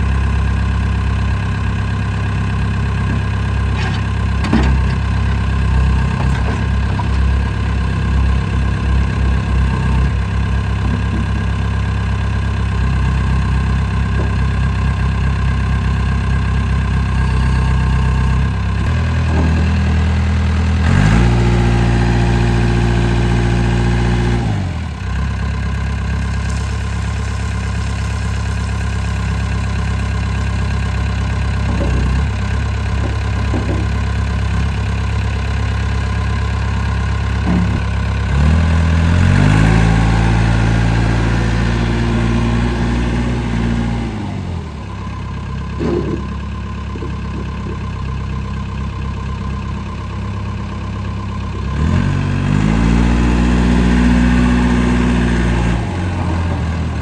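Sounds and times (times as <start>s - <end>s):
diesel engine revving: 0.0s - 47.9s, 49.3s - 57.0s.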